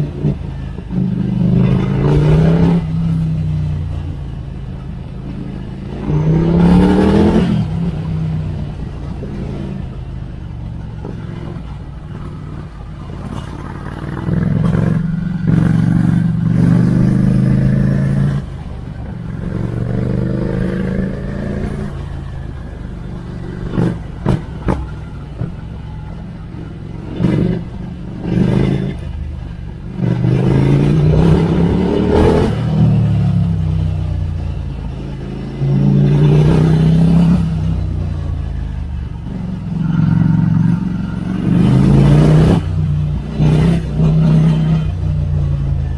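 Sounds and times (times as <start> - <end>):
exhaust cracks: 0.0 - 45.9
motorcycle engine accelerating: 0.0 - 45.9.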